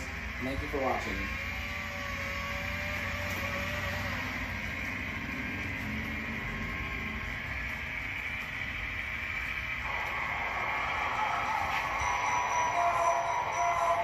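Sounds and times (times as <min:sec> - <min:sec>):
model train running: 0:00.0 - 0:14.0.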